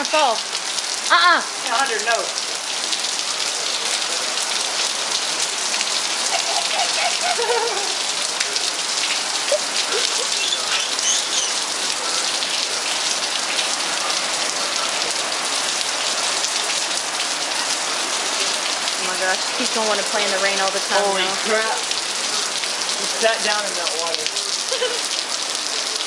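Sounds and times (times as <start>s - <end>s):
heavy rain: 0.0s - 26.0s
faint voices: 1.1s - 26.0s.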